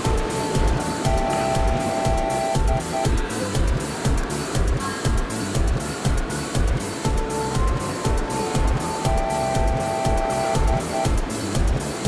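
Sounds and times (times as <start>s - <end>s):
music with low beat: 0.0s - 12.0s.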